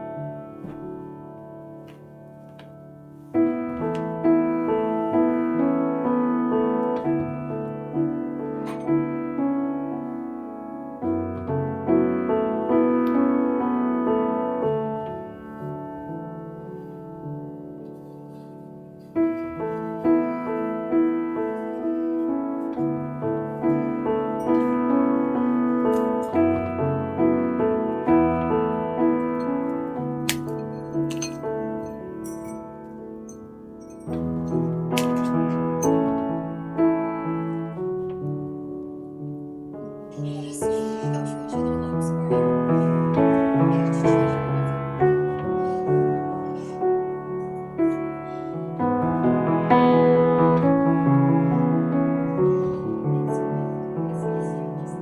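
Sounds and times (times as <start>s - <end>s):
soft piano music: 0.0s - 55.0s.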